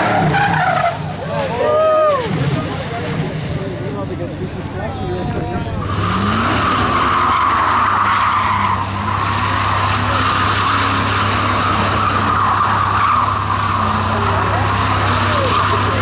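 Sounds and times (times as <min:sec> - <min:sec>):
car tyres screeching: 0:00.0 - 0:16.0
car engine running: 0:02.3 - 0:16.0.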